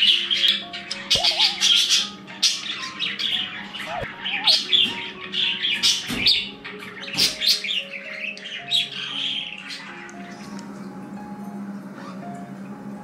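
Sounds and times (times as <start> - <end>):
budgies chattering and chirping: 0.0 - 10.5
background music with held notes: 0.0 - 13.0.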